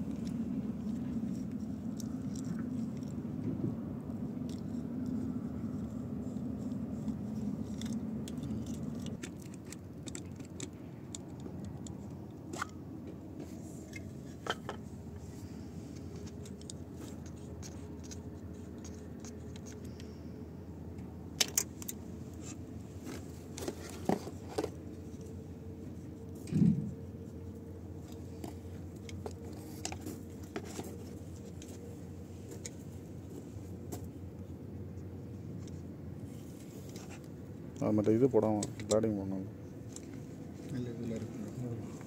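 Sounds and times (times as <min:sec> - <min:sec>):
small clicks and scrapes: 0:00.0 - 0:20.3, 0:21.0 - 0:42.0
steady low hum: 0:00.0 - 0:42.0.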